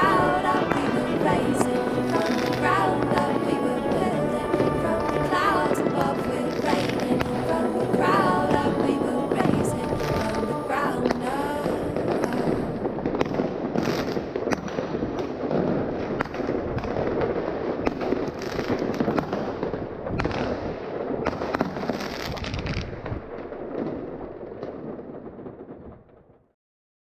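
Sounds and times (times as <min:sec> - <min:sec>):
sharp firework reports: 0:00.0 - 0:23.2
firecrackers crackling: 0:00.0 - 0:26.1
fireworks bursting and banging: 0:00.0 - 0:26.1.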